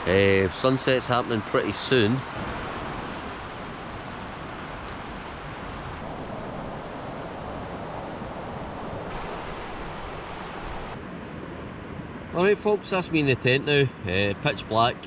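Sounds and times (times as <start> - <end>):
rushing outdoor noise: 0.0 - 15.0.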